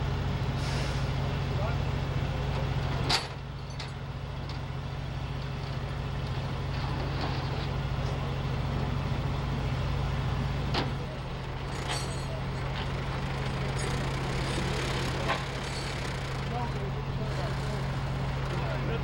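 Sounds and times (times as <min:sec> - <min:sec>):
heavy vehicle engine idling: 0:00.0 - 0:19.0.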